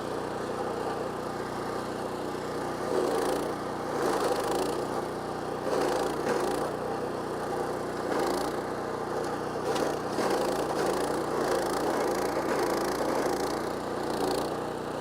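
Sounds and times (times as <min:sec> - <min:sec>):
engine running: 0:00.0 - 0:15.0
cutting wheel grinding wood: 0:02.7 - 0:14.8.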